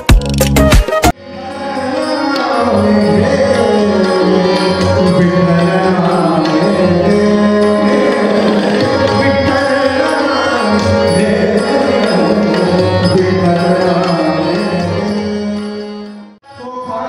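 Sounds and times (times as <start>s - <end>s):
harmonium drone: 0.8s - 17.0s
man singing devotional line: 1.2s - 17.0s.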